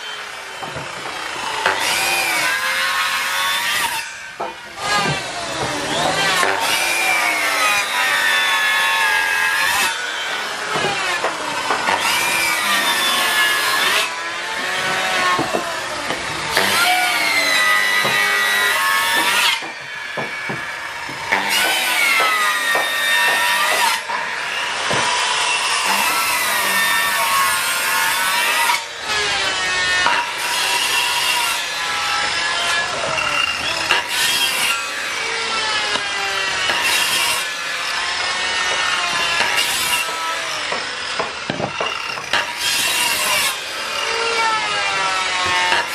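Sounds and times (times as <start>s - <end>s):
circular saw cutting wood: 0.0s - 45.9s.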